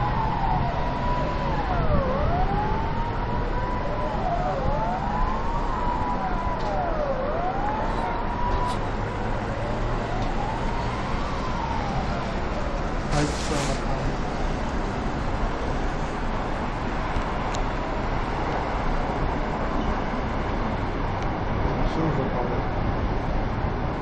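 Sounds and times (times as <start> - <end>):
emergency sirens wailing: 0.0 - 23.2.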